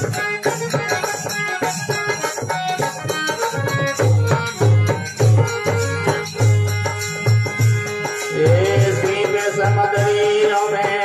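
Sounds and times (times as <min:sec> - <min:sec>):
hand drum playing: 0:00.0 - 0:10.3
harmonium melody: 0:00.0 - 0:11.0.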